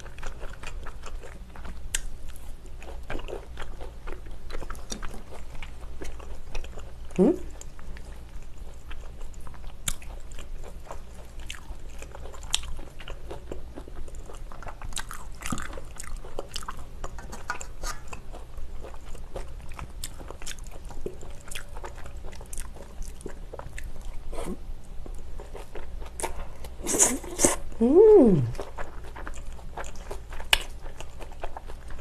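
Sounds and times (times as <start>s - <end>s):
person chewing: 0.0s - 32.0s.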